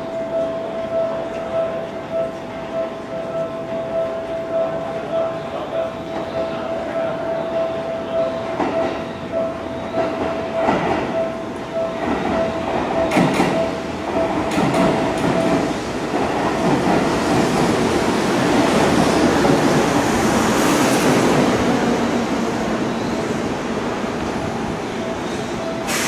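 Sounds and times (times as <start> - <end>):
electric train pulling in: 0.0 - 26.0.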